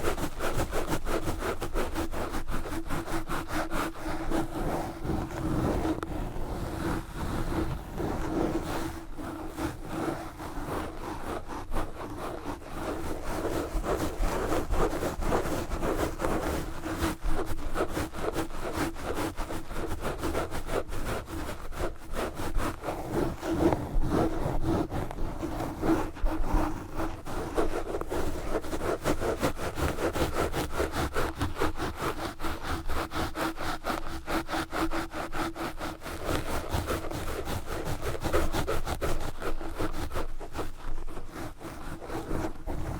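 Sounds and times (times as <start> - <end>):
gloves scratching on microphone: 0.0 - 42.9.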